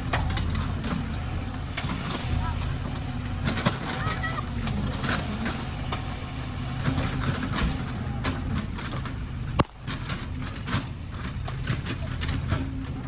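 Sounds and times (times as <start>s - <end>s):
heavy diesel engine running: 0.0s - 13.0s
metal clanks and knocks: 0.0s - 13.0s.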